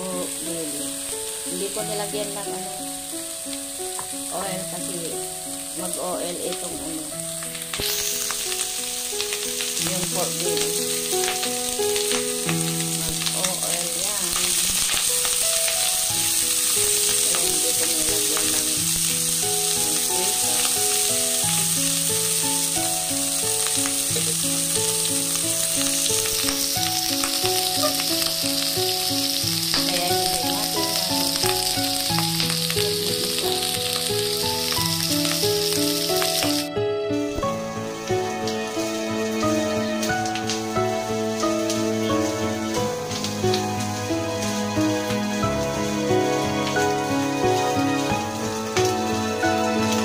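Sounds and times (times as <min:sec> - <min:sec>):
fat sizzling in a wok: 0:00.0 - 0:36.7, 0:37.3 - 0:50.0
melodic background tune: 0:00.0 - 0:50.0.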